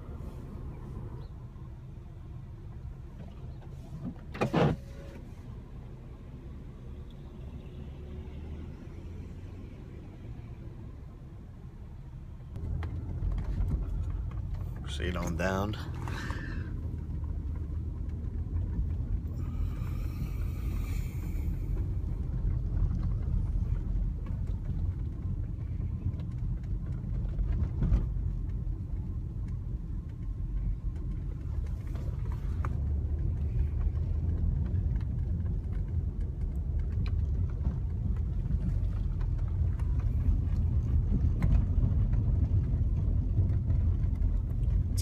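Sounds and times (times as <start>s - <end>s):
car engine rumble: 0.0s - 45.0s
tyres on snowy street: 0.0s - 45.0s.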